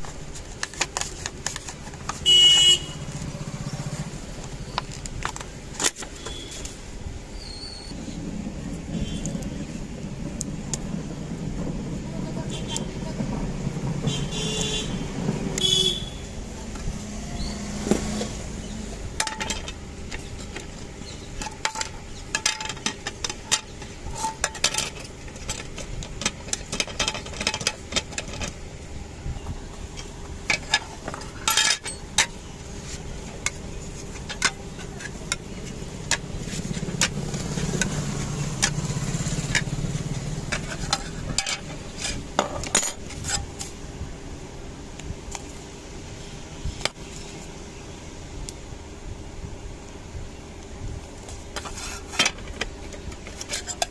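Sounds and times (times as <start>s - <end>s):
street traffic: 0.0s - 53.9s.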